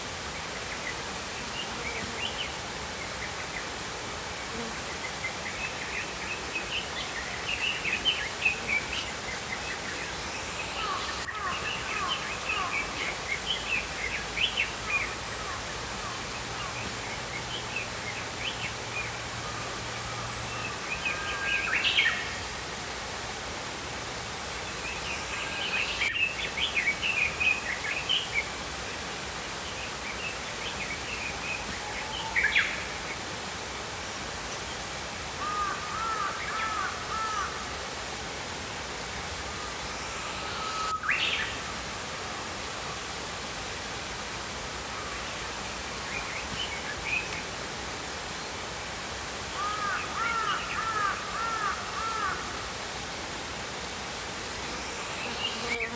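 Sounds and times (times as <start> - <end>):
stream rushing: 2.6 - 27.8, 32.3 - 55.9.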